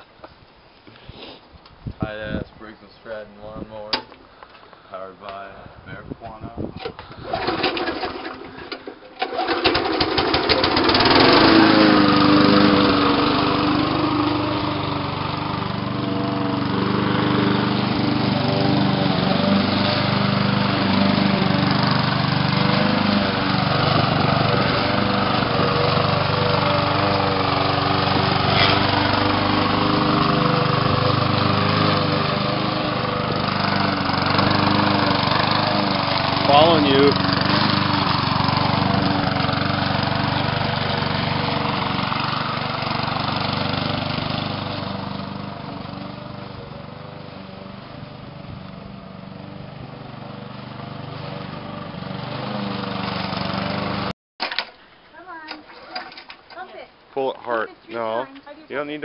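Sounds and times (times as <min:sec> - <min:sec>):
lawn mower engine running: 0:06.8 - 0:54.7.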